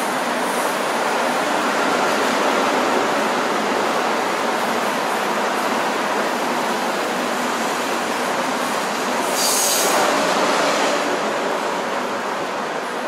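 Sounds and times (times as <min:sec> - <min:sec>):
subway train rumbling on rails: 0:00.0 - 0:13.0.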